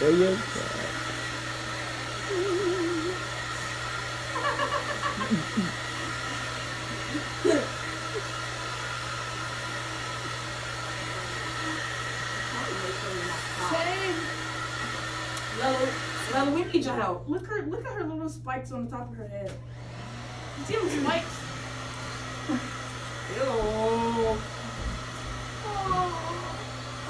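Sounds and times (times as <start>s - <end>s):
blow dryer running: 0.0s - 18.2s, 19.4s - 27.0s.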